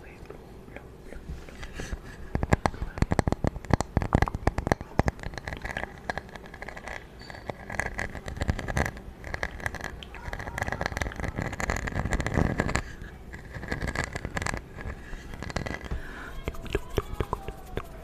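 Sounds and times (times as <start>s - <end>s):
tapping and scratching on object: 1.6s - 18.0s.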